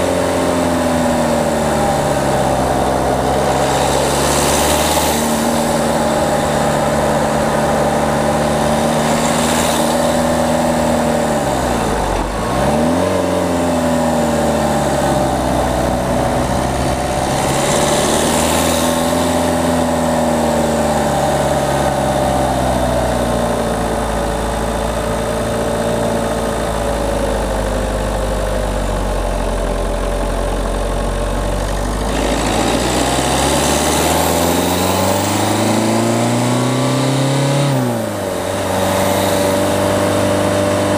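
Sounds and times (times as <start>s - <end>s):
car diesel engine revving: 0.0s - 40.9s.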